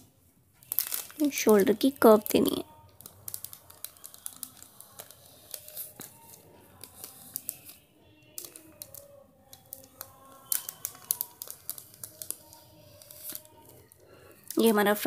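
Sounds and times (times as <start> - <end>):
paper rustling: 0.6 - 14.6.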